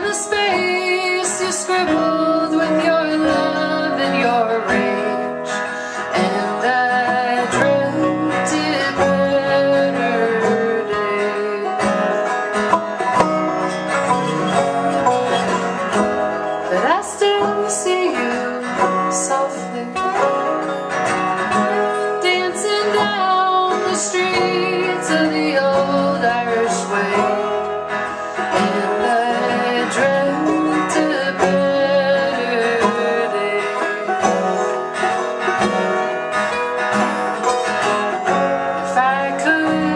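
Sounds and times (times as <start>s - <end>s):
picked banjo-like strings: 0.0s - 39.9s.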